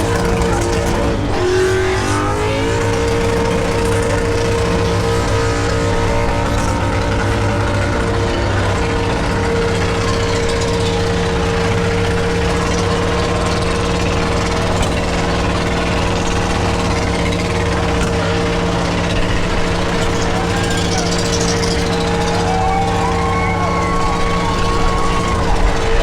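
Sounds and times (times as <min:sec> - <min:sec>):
engine at high revs: 0:00.0 - 0:26.0
spinning tires hissing: 0:00.0 - 0:26.0.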